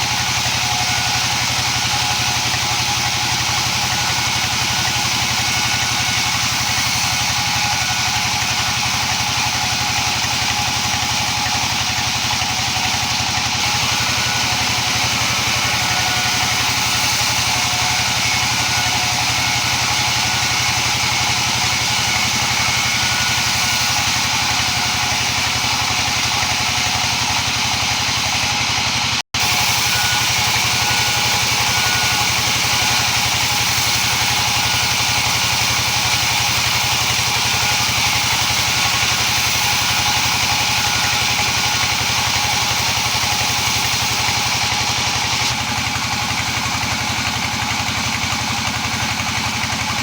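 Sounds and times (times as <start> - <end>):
wood-slicing machine running: 0.0 - 50.0.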